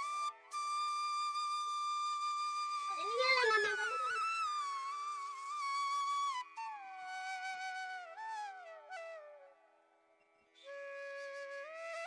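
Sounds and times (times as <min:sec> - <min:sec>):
flute melody: 0:00.0 - 0:12.0.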